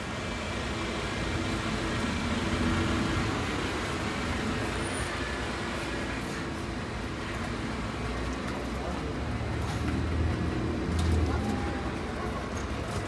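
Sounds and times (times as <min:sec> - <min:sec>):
buses driving past: 0:00.0 - 0:13.0.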